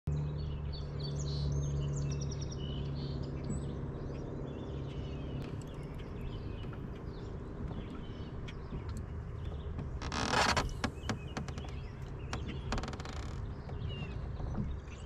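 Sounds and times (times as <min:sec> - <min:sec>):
birds chirping and singing: 0:00.1 - 0:15.0
steady low hum: 0:00.2 - 0:15.0.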